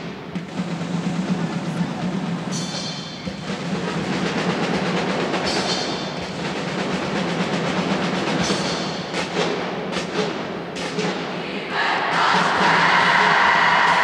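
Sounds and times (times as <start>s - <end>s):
drums in fast steady rhythm: 0.0s - 11.4s.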